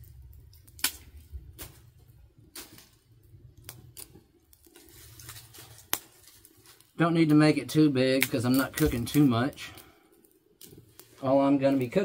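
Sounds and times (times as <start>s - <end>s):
low fire rumble: 0.0s - 12.0s
twigs snapping in fire: 0.0s - 12.0s.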